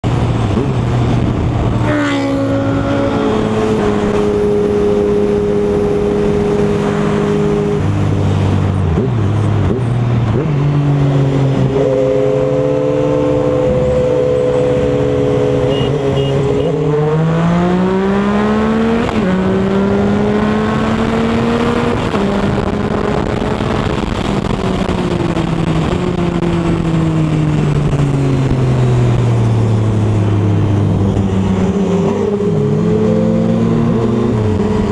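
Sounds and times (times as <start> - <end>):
wind rush: 0.0 - 15.6, 16.4 - 34.9
motorcycle engine revving: 0.0 - 34.9.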